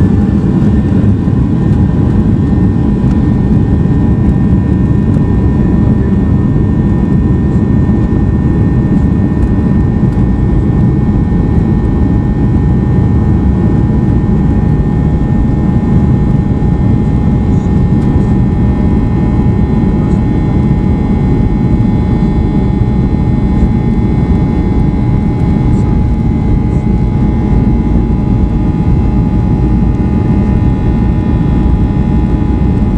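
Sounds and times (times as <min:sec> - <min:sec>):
jet engines rumbling in cabin: 0:00.0 - 0:32.9.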